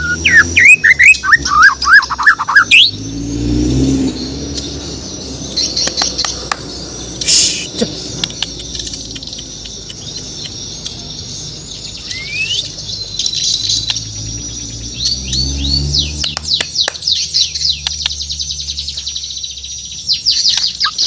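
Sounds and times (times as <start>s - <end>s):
bird chirping and whistling: 0.0s - 21.0s.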